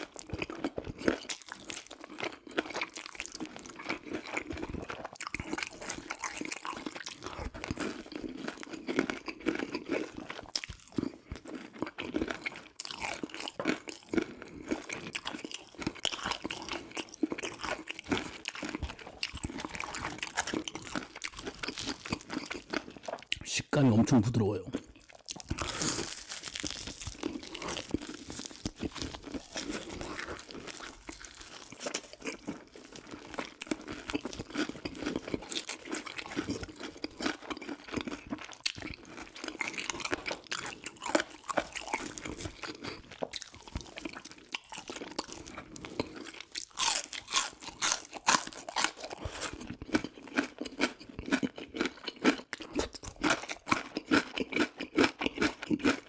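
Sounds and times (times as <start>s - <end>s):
crunching fried chicken: 0.0s - 56.0s.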